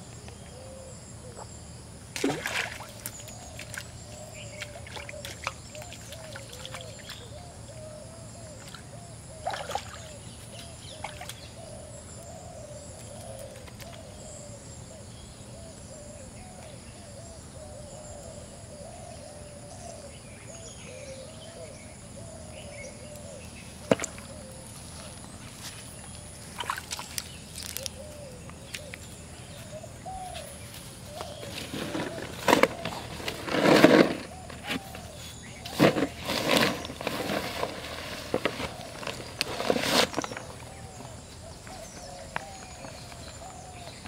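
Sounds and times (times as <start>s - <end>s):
outdoor background noise: 0.0s - 44.0s
bird cooing: 0.4s - 1.4s, 3.2s - 25.3s, 27.6s - 36.1s, 36.8s - 44.0s.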